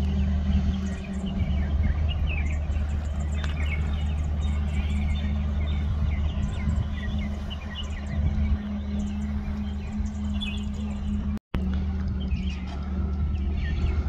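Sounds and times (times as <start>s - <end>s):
small birds chirping: 0.0s - 11.4s, 12.1s - 14.0s
steady low rumble: 0.0s - 14.0s.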